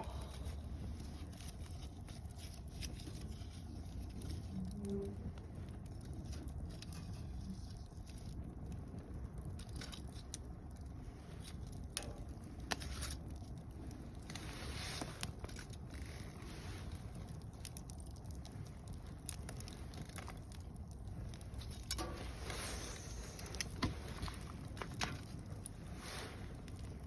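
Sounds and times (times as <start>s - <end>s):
campfire flame rushing: 0.0s - 27.0s
fire crackles and pops: 0.0s - 27.0s.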